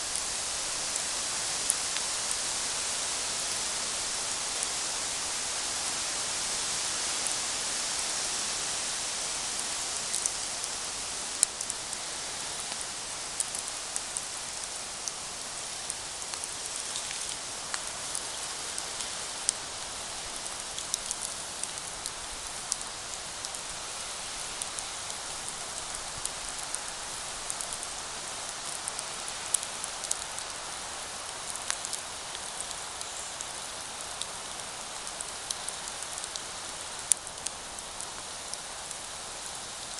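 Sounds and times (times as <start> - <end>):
campfire crackling and hissing: 0.0 - 39.9.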